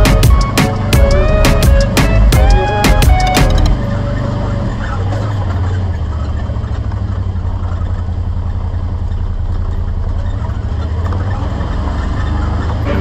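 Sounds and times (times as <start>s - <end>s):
ground and drivetrain noise: 0.0s - 13.0s
off-road vehicle engine rumble: 0.0s - 13.0s.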